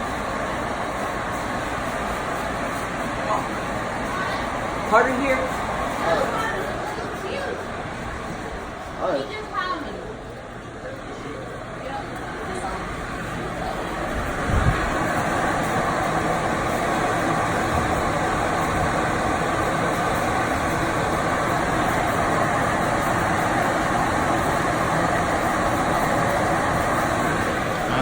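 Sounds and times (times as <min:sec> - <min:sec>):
air-mover fans blowing: 0:00.0 - 0:28.0.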